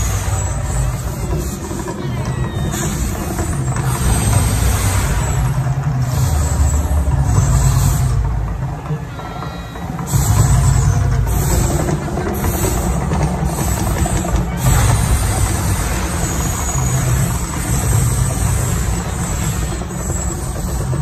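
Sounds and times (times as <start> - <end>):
hissing whoosh of fire jets: 0.0 - 8.7, 10.0 - 21.0
deep continuous rumbling: 0.0 - 21.0.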